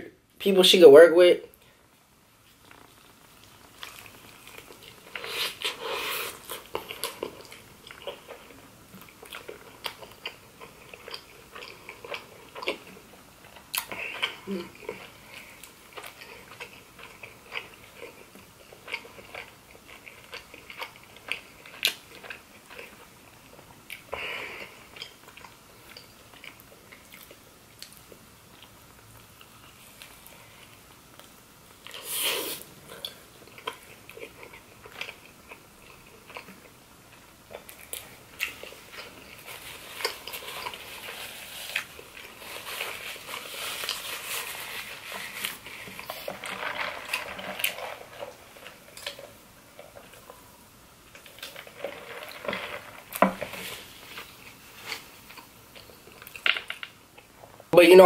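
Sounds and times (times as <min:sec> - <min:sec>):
person chewing food: 0:01.6 - 0:57.7.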